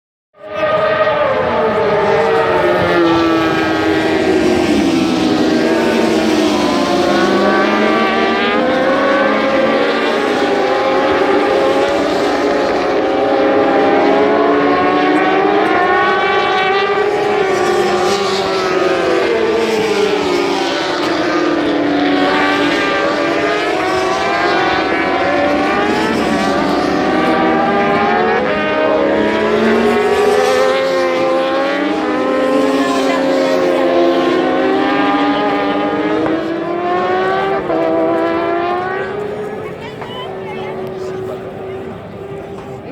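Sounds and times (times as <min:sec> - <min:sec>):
motorcycle engines revving: 0:00.4 - 0:42.9.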